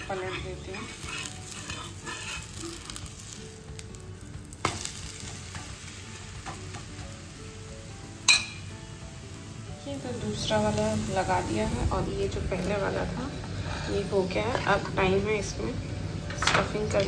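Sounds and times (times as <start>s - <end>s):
batter sizzling in a pan: 0.0s - 15.5s.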